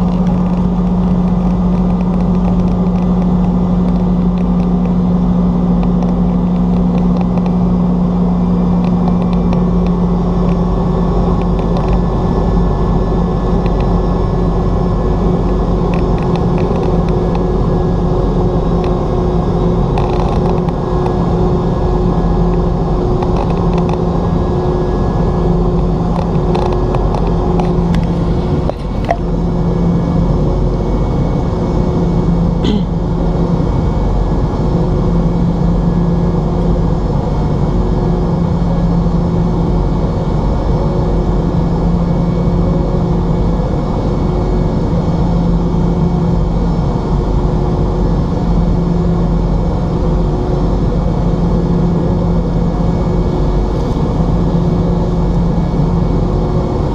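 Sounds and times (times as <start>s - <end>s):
airplane cabin rumble: 0.0s - 56.9s.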